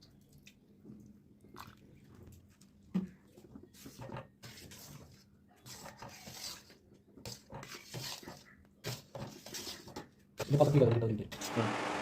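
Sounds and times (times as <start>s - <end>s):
faint scraping and rustling: 1.8s - 11.6s.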